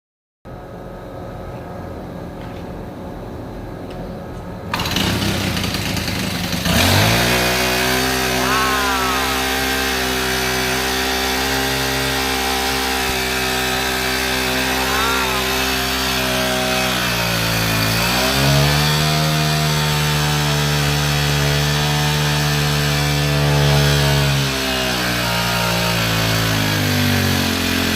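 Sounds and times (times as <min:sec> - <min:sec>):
lawn mower engine running: 0:04.7 - 0:27.9.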